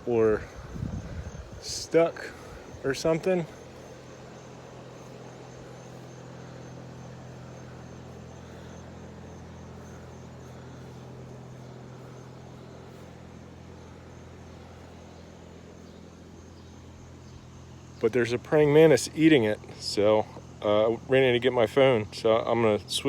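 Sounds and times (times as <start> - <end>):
high-pitched insect chirping: 0.0 - 23.0
low machine hum: 0.0 - 23.0.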